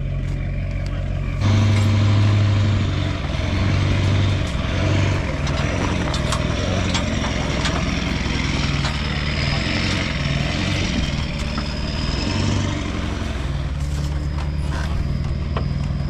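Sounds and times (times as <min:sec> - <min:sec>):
vehicle engine running: 0:00.0 - 0:16.0
rattles and clicks: 0:00.2 - 0:16.0.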